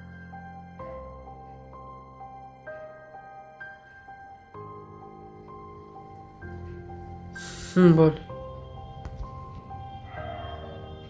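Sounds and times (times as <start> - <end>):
soft sad background music: 0.0 - 11.0.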